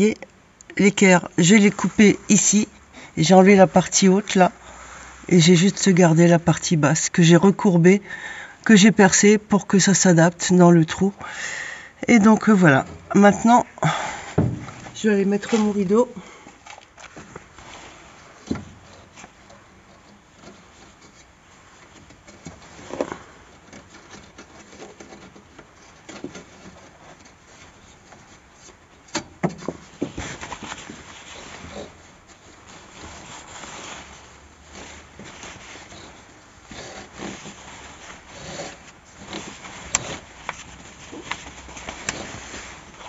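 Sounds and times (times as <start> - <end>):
curtain fabric rustling: 0.0 - 8.1, 12.0 - 29.1, 29.8 - 43.0.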